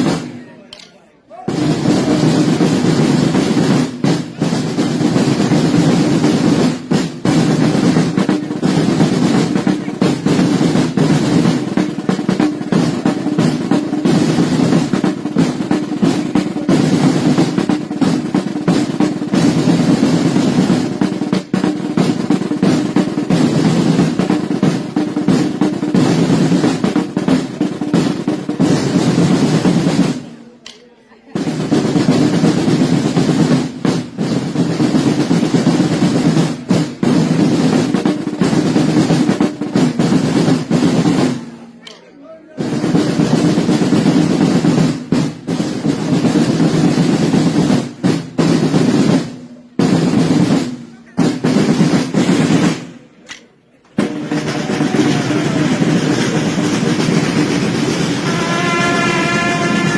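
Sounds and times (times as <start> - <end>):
side drums rolling: 0.0 - 59.9.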